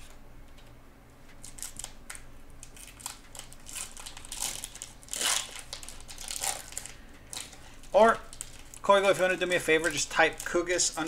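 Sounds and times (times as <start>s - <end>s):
packaging crinkling: 1.3s - 11.0s.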